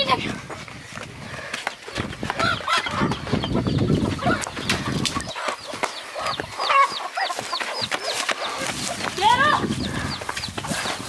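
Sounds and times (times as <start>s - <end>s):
chickens clucking and squawking: 0.0s - 11.0s
footsteps running on dirt: 0.0s - 11.0s.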